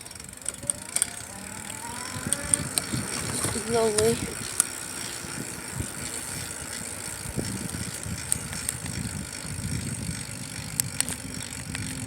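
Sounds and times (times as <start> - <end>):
bicycle tyres and frame rattling: 0.0 - 12.0.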